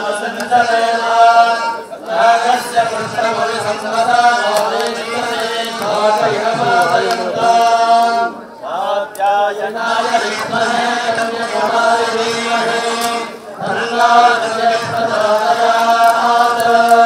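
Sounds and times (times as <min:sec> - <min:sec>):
mantras chanted on held notes: 0:00.0 - 0:17.0.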